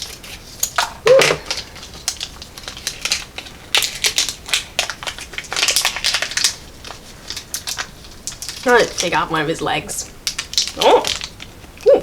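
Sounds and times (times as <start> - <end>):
scissors snipping plastic wrapper: 0.0 - 9.1, 10.2 - 11.5
plastic wrapper crinkling: 0.0 - 12.0.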